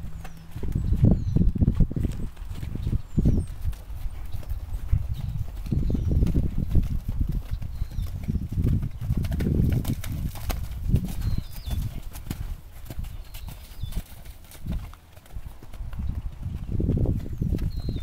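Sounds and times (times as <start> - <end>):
horse hooves cantering on sand: 0.0 - 18.0.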